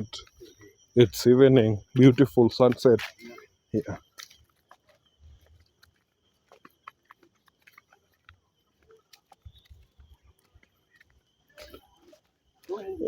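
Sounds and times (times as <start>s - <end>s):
faint steady high tone: 0.0s - 13.0s.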